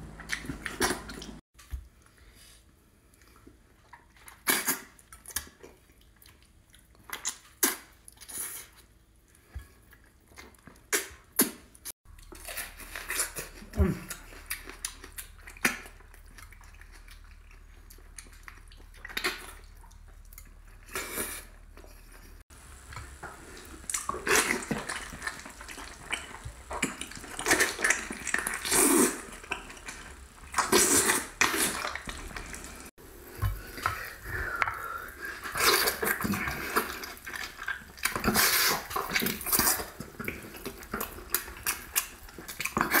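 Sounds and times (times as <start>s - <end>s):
man chewing and lip-smacking: 0.0s - 2.2s, 3.0s - 43.0s.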